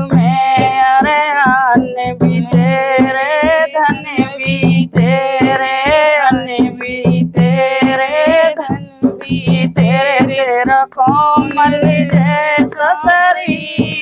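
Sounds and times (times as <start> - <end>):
steady percussion beat: 0.0 - 14.0
woman singing devotional song: 0.0 - 14.0.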